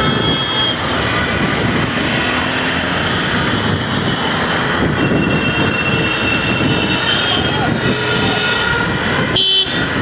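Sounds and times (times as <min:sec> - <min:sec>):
other vehicles in traffic: 0:00.0 - 0:10.0.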